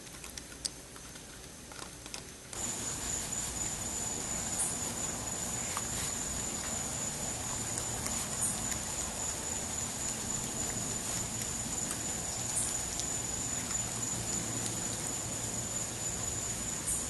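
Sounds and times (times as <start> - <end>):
raccoon chewing peanuts: 0.0 - 17.0
steady hiss: 2.5 - 17.0.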